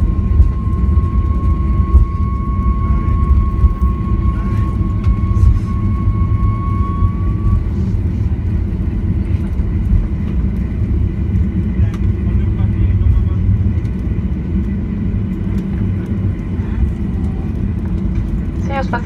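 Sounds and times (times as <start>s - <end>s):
low rumble of wheels and airframe: 0.0s - 19.0s
thin jet engine whine: 0.0s - 19.0s.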